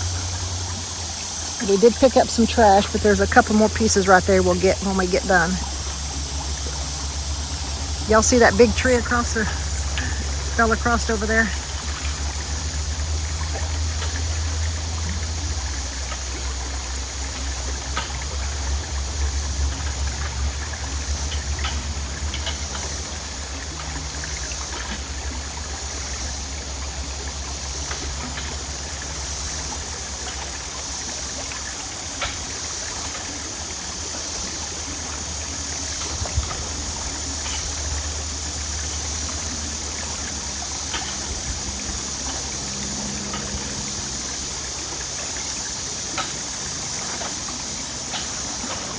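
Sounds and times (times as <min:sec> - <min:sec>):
water rushing through culvert: 0:00.0 - 0:48.9.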